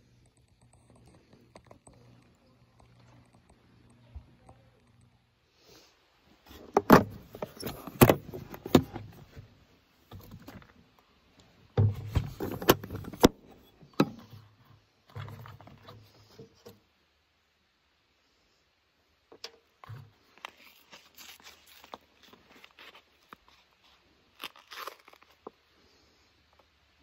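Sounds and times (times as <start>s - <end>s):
rustling and shuffling: 0.0s - 16.9s, 19.6s - 26.8s.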